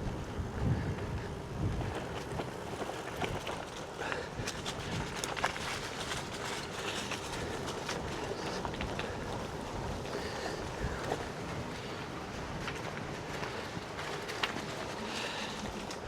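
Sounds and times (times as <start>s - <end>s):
bicycle tyre noise: 0.0s - 16.0s
wind buffeting microphone: 0.0s - 16.0s
small clicks and ticks: 1.0s - 16.0s.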